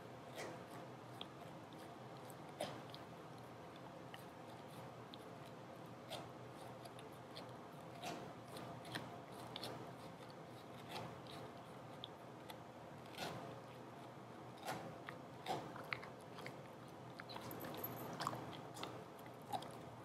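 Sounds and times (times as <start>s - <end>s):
dog gnawing a chew: 0.0s - 20.0s
steady low hum: 0.0s - 20.0s.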